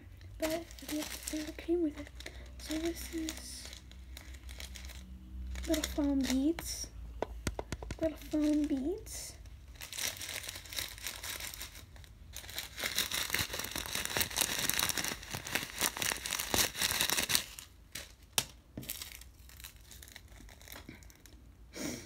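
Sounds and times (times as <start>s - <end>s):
plastic packets crinkling: 0.2s - 6.9s, 7.5s - 21.5s.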